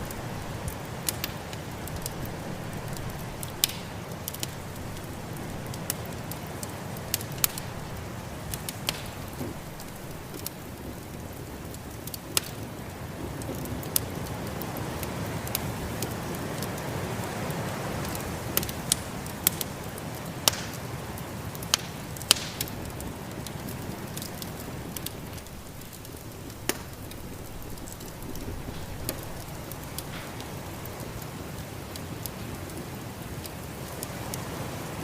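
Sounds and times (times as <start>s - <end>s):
sharp pops of fire: 0.0s - 17.3s, 17.9s - 34.5s
rushing storm wind: 0.0s - 20.4s, 21.0s - 35.0s
wood fire crackling: 0.0s - 35.0s.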